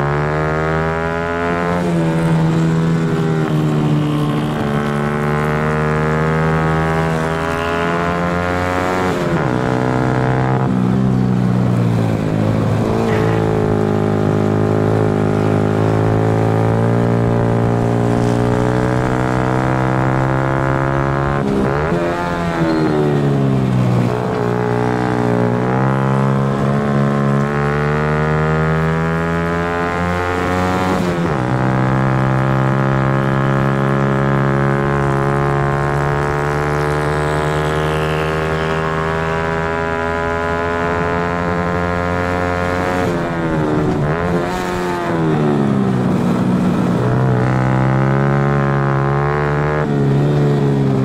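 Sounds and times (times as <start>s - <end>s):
motorcycle engine racing: 0.0s - 51.0s.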